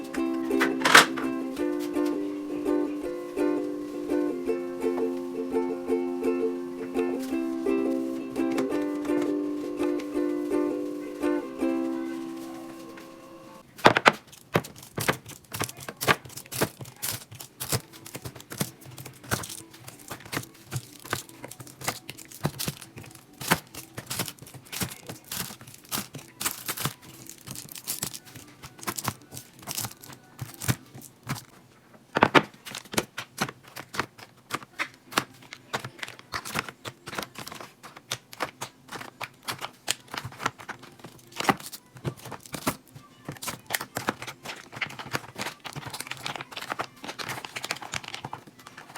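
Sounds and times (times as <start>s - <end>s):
plastic containers clicking and knocking: 0.0s - 2.2s, 8.4s - 10.2s, 13.6s - 48.9s
faint background music: 0.0s - 33.0s, 33.7s - 48.9s.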